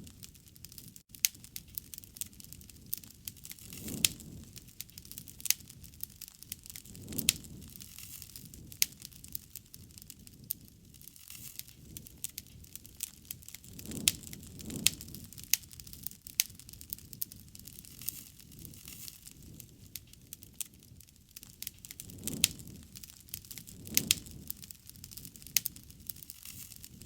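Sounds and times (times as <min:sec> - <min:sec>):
low rumble of flame: 0:00.0 - 0:27.0
wood fire crackling: 0:00.0 - 0:27.0.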